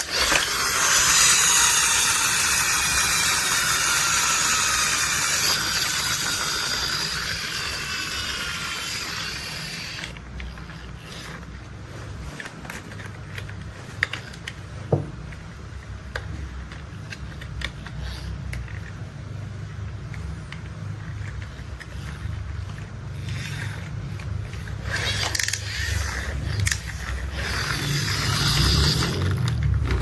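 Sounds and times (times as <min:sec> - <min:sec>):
toy vehicles clicking: 0:00.0 - 0:30.0.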